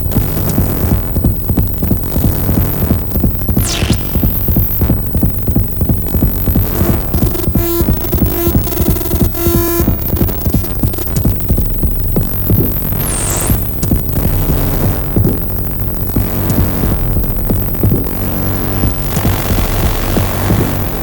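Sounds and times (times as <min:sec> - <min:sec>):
buzzy held synth note: 0:00.0 - 0:21.0
electronic synth music: 0:00.0 - 0:21.0.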